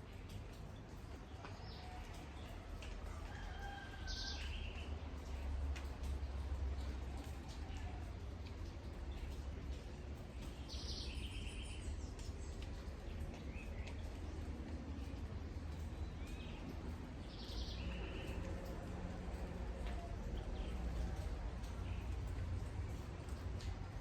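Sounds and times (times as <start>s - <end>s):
rain patter: 0.0s - 24.0s.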